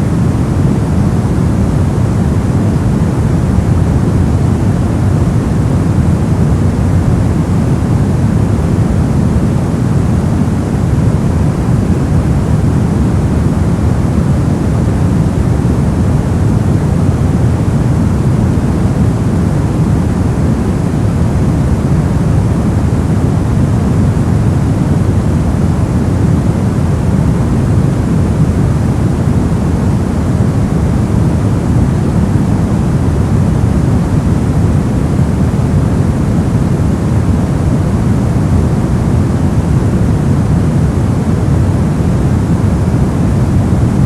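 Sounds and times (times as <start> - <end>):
white noise hiss: 0.0 - 44.0.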